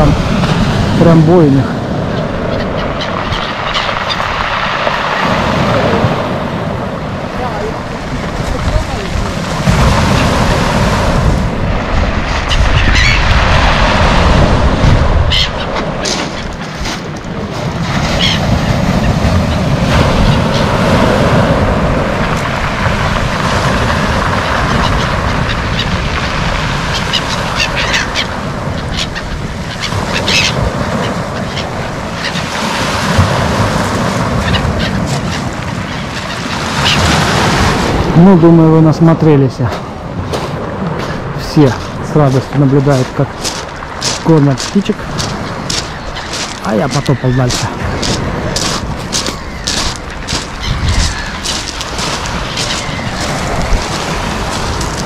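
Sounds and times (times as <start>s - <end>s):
gulls squawking: 0.0s - 40.0s, 40.8s - 55.0s
surf breaking on pebbles: 0.0s - 55.0s.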